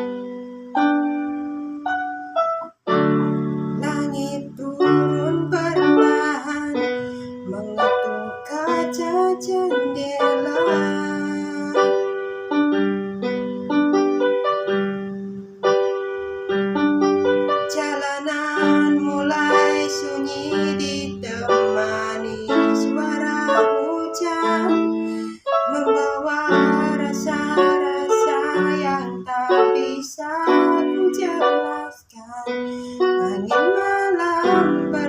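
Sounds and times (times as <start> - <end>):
keyboard chords: 0.0 - 35.0.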